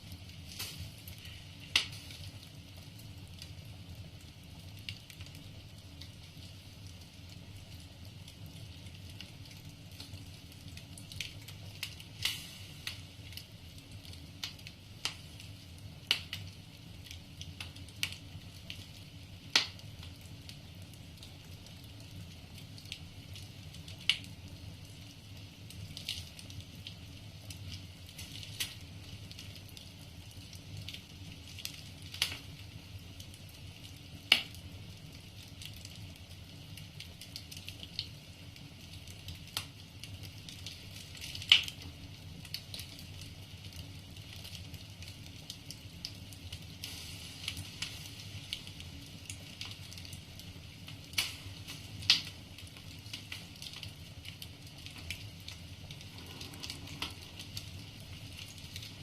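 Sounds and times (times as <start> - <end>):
fire rumble and hiss: 0.0 - 59.0.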